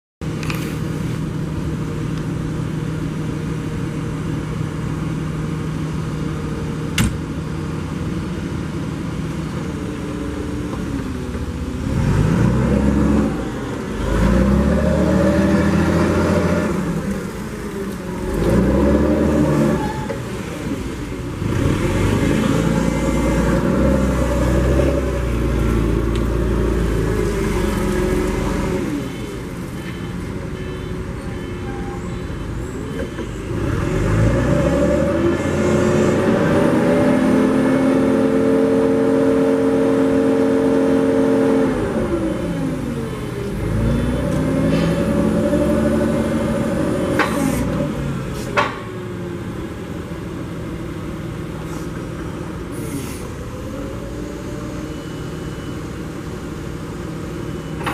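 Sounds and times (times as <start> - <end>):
forklift engine idling and revving: 0.2 - 57.9.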